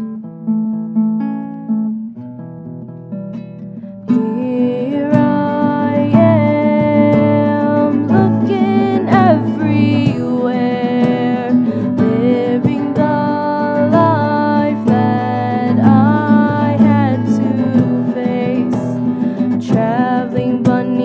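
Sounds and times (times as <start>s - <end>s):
song with acoustic guitar: 0.0s - 21.0s.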